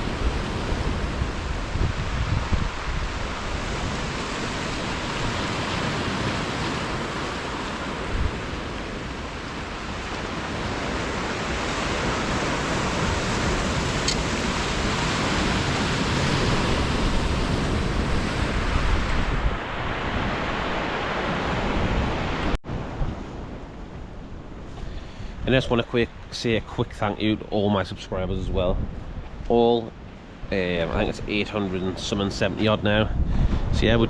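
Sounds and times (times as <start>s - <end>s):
sea surf: 0.0s - 34.0s
wind rushing over microphone: 0.0s - 34.0s.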